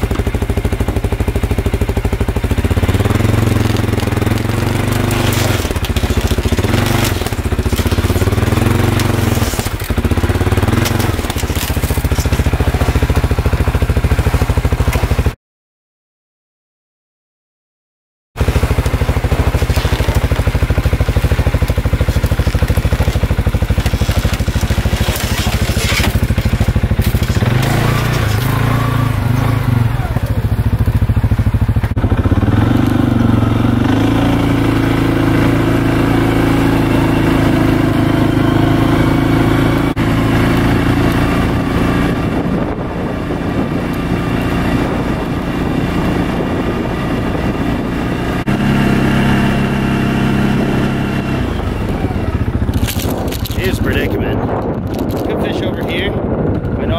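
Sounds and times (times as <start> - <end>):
atv engine running: 0.0 - 15.4, 18.4 - 56.9.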